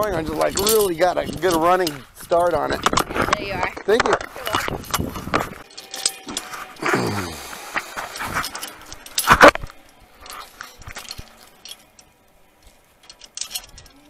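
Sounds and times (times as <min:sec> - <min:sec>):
metallic clinks of carabiners: 0:00.0 - 0:14.0
rustling: 0:00.0 - 0:14.0.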